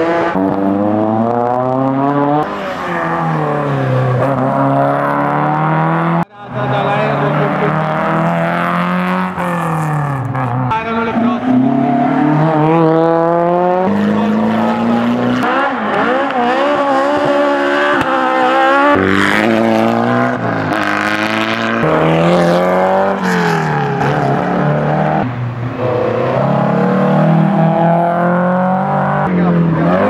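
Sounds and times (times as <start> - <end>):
car engines revving past: 0.0 - 30.0.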